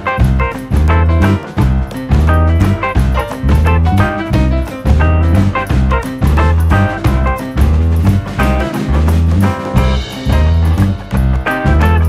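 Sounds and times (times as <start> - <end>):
bass beat: 0.0 - 12.0
plucked guitar notes: 0.0 - 12.0
swing jazz music: 0.0 - 12.0.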